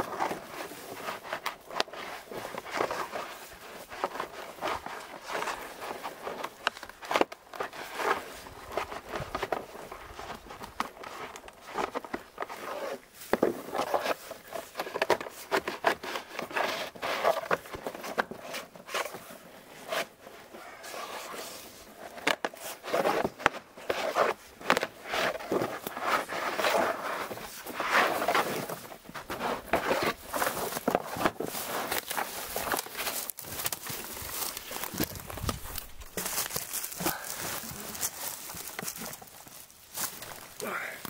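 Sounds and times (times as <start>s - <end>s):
bark scraping and tearing: 0.1s - 40.6s.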